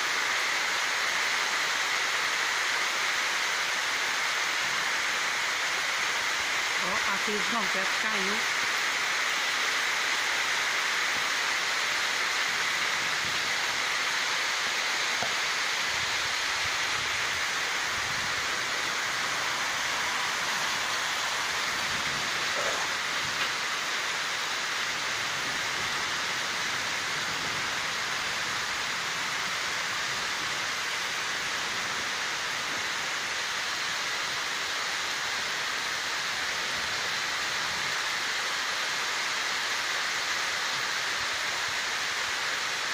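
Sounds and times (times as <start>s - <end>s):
heavy rain on rooftops and foliage: 0.0s - 42.9s.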